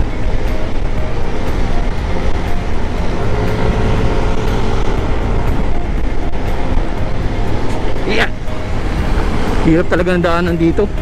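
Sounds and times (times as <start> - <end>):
scooter engine: 0.0 - 10.2
road noise: 0.0 - 11.0.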